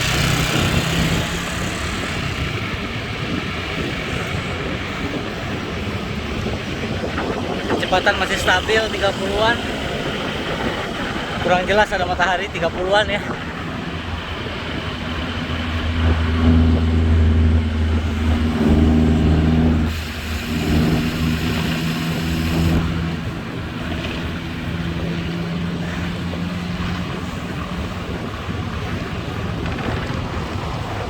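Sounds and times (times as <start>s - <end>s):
vehicle engine humming: 0.0s - 31.0s
wind rushing across microphone: 0.0s - 31.0s.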